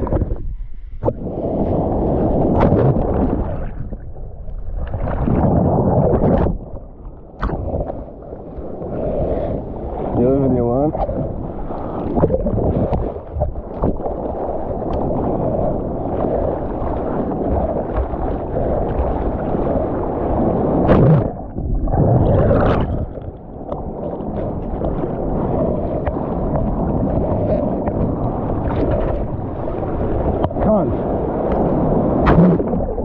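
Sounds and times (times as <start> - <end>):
ocean water sloshing and rushing: 0.0 - 33.0.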